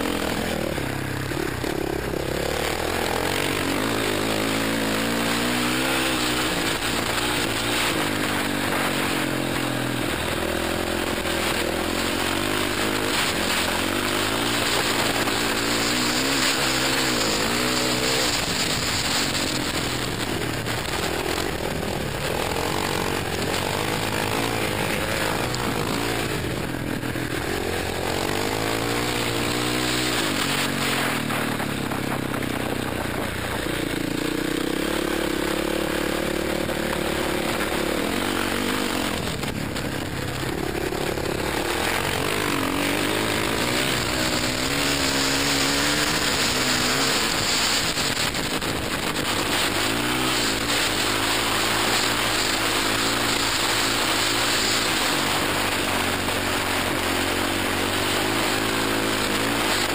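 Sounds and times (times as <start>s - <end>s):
dirt bike engine revving: 0.0s - 59.9s
wind noise: 3.0s - 35.2s, 35.8s - 59.9s.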